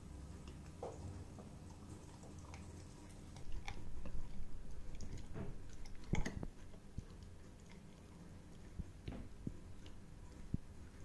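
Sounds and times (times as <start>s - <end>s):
puppy chewing a chew stick: 0.0s - 11.0s.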